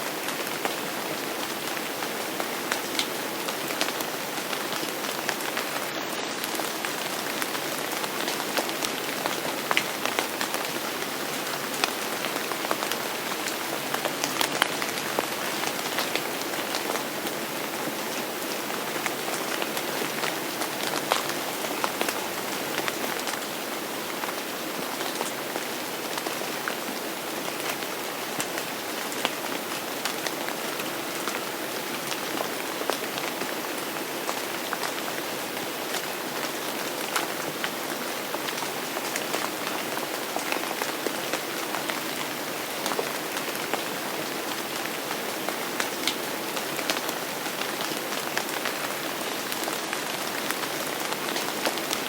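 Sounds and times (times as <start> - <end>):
rain on a hard surface: 0.0 - 52.0.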